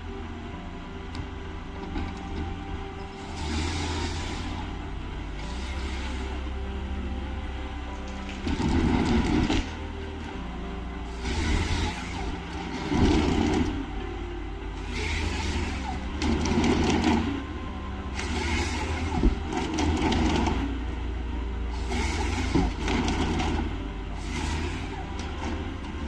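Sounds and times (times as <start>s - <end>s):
low engine drone: 0.0s - 26.0s
rough grinding surges: 1.9s - 26.0s.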